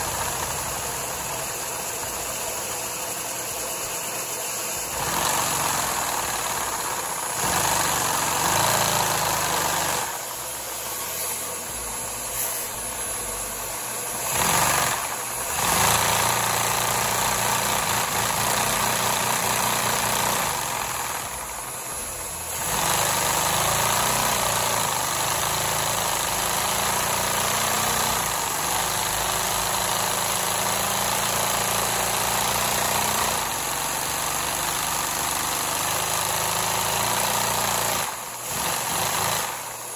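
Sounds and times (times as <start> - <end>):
toy engine mechanical hum: 0.0 - 10.6, 14.1 - 39.9
vacuum cleaner rushing: 0.0 - 39.9.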